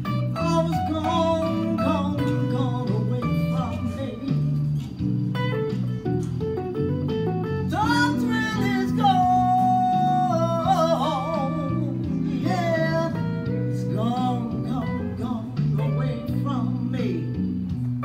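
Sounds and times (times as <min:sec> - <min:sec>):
woman singing blues: 0:00.0 - 0:04.8, 0:07.6 - 0:17.6
electric guitar: 0:00.0 - 0:18.0.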